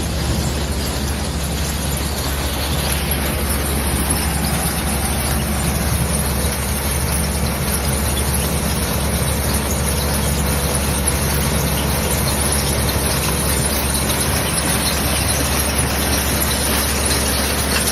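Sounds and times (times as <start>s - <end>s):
onion crusher machine running: 0.0s - 17.9s.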